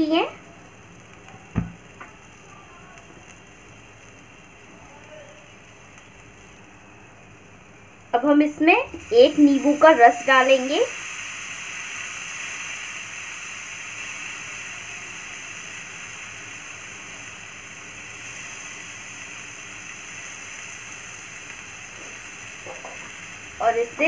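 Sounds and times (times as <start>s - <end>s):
oil sizzling in a pan: 0.0s - 24.0s.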